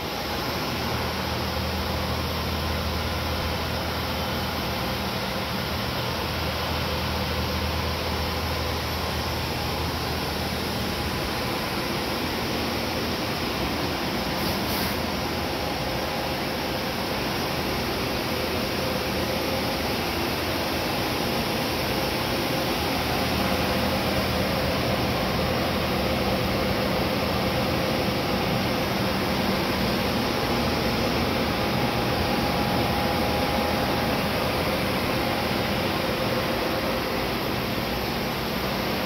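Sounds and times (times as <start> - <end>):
faint steady hum tones: 0.0 - 39.0
transmitter cooling fans and pumps: 0.0 - 39.0.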